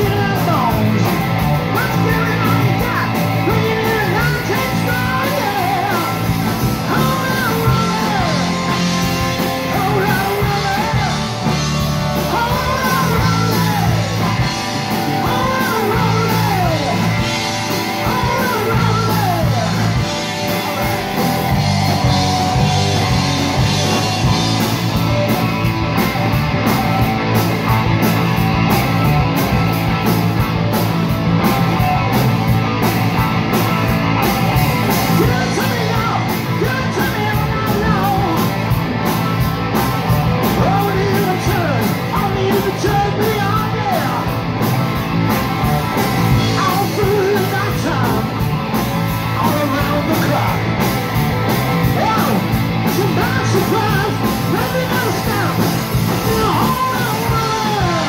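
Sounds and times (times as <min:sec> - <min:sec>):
electric guitars: 0:00.0 - 0:58.0
keyboards: 0:00.0 - 0:58.0
steady drumbeat: 0:00.0 - 0:58.0.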